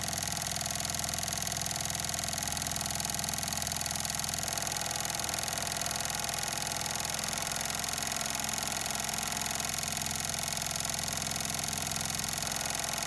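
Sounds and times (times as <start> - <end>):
sewing machine running: 0.0 - 13.0.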